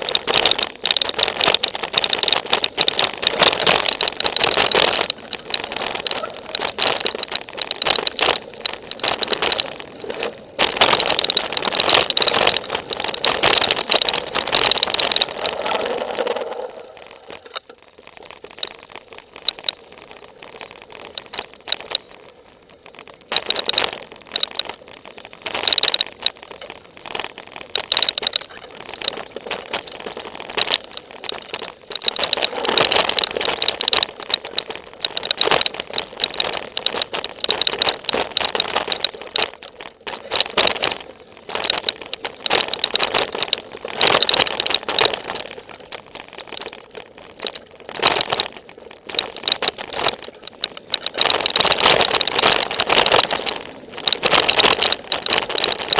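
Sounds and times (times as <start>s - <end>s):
mountain bike rattling over rocks: 0.0s - 55.9s.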